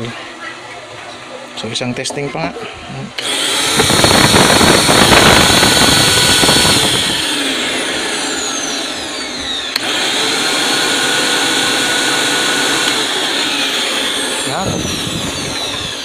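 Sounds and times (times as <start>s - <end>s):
vacuum cleaner motor whining: 1.5s - 16.0s.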